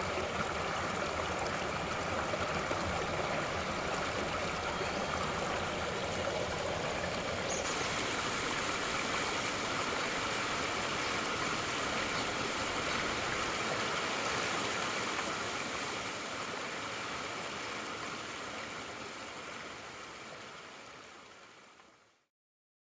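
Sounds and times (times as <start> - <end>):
stream babbling: 0.0 - 21.8.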